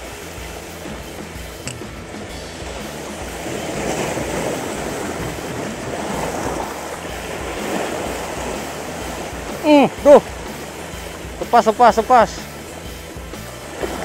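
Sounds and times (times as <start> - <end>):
waves washing over rocks: 0.0 - 14.0.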